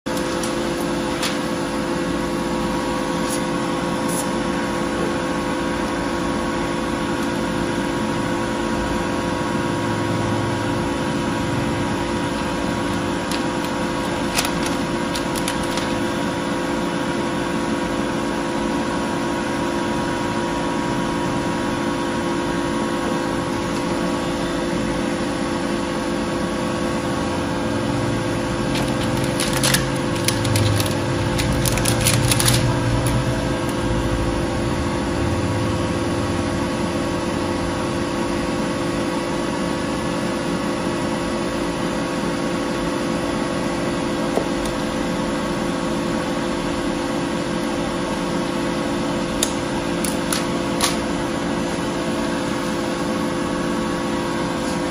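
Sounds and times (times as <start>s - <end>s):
laser cutter humming: 0.1s - 54.9s.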